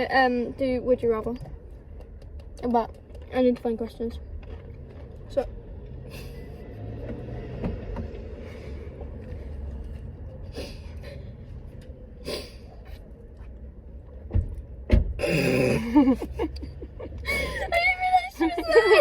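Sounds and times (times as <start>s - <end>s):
low rumble inside car: 0.0s - 19.0s.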